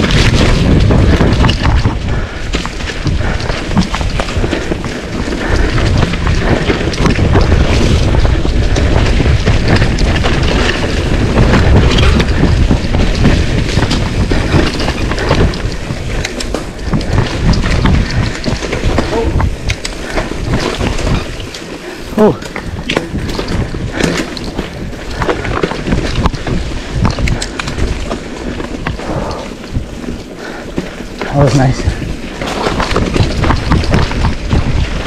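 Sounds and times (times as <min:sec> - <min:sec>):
bike rattling and knocking: 0:00.0 - 0:35.0
wind buffeting microphone: 0:00.0 - 0:35.0.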